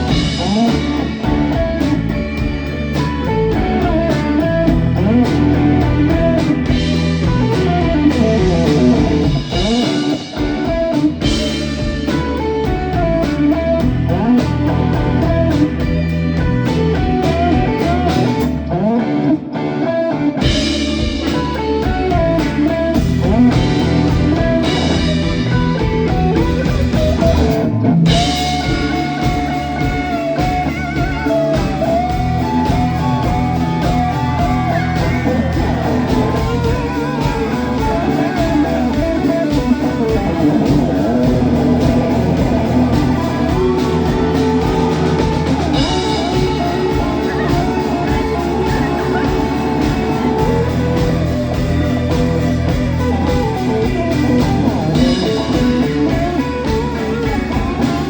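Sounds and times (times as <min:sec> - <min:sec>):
bass and drums: 0:00.0 - 0:19.4, 0:20.3 - 0:58.0
lead electric guitar bending notes: 0:00.0 - 0:58.0.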